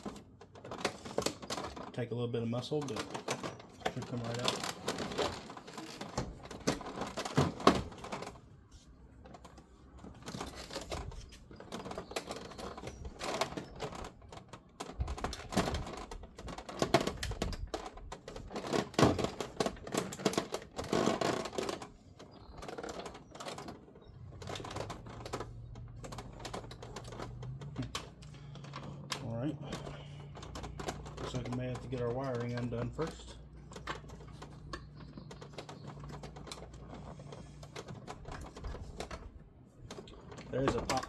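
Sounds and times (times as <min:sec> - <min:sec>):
plastic trim clicking and rattling: 0:00.0 - 0:08.6, 0:09.2 - 0:41.0.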